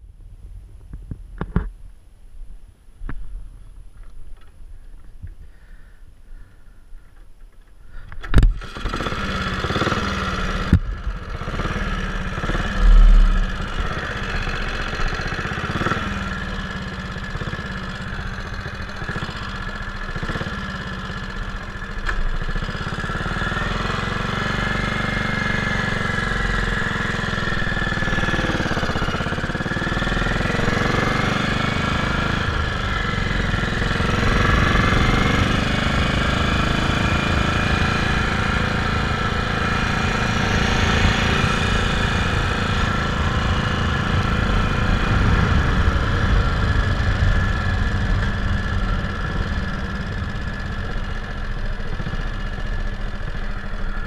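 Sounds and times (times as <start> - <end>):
motorcycle engine running: 8.0 - 54.0.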